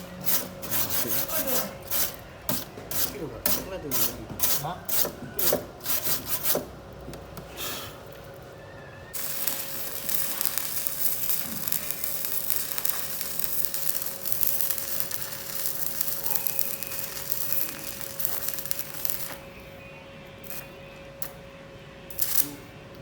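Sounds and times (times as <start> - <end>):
arc welding crackle: 0.0 - 6.6, 9.1 - 23.0.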